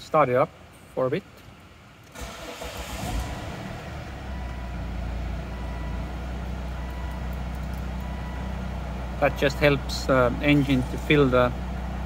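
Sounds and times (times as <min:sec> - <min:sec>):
diesel engine starting and idling: 0:02.1 - 0:12.0.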